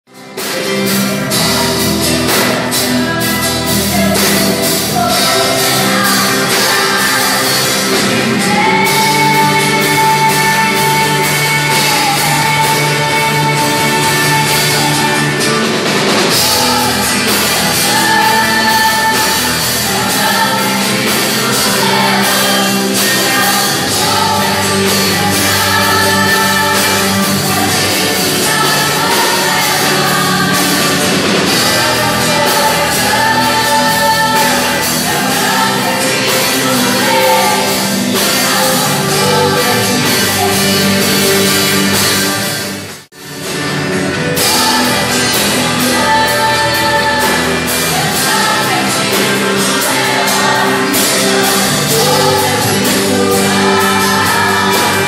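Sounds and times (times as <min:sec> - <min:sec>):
electric guitars: 0:00.1 - 0:55.0
worship song with band: 0:00.1 - 0:55.0
woman singing: 0:01.3 - 0:15.6, 0:16.3 - 0:42.0, 0:44.4 - 0:55.0.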